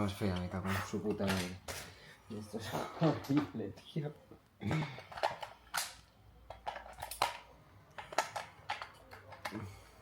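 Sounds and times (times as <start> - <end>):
hard objects clicking and clattering: 0.2 - 2.0, 2.9 - 10.0.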